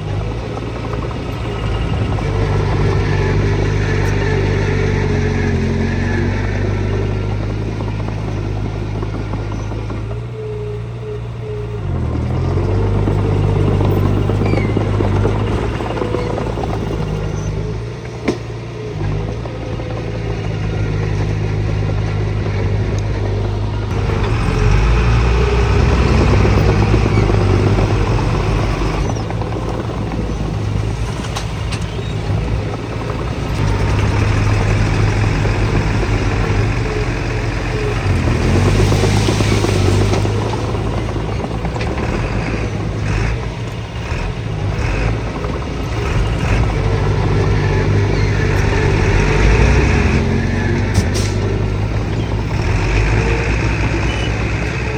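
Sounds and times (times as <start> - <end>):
heavy diesel engine drone: 0.0 - 54.9.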